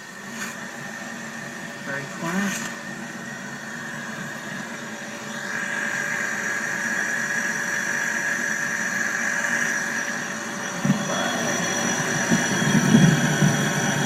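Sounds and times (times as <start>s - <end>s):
fridge humming: 0.0s - 14.0s.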